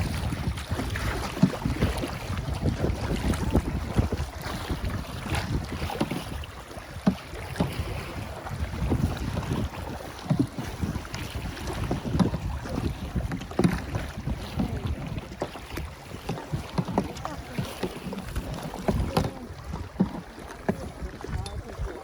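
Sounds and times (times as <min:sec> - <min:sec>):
paddle strokes splashing in water: 0:00.0 - 0:22.0
wind buffeting microphone: 0:00.0 - 0:22.0.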